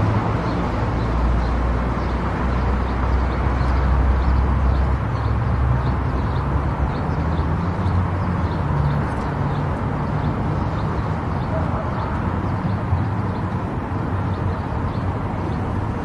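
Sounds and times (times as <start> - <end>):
tyre and road noise: 0.0 - 16.0.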